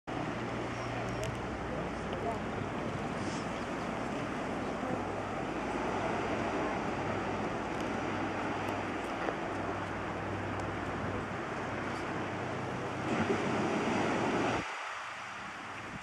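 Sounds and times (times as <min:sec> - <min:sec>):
surf washing on shore: 0:00.1 - 0:16.0
wind noise on microphone: 0:02.4 - 0:16.0.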